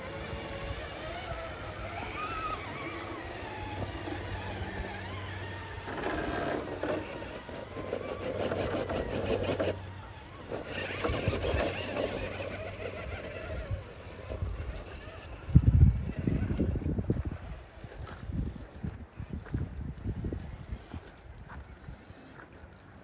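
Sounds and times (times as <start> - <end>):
small electric motor whirring: 0.0 - 18.7.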